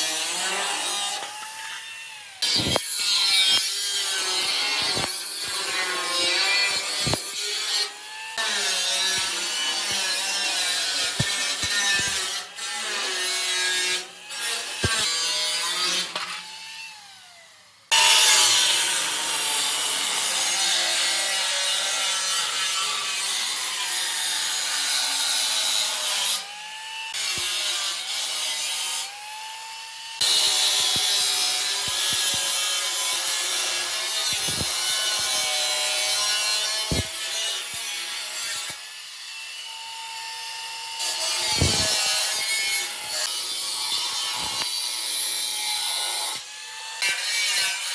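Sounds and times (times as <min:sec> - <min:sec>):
angle grinder cutting steel: 0:00.0 - 0:47.9.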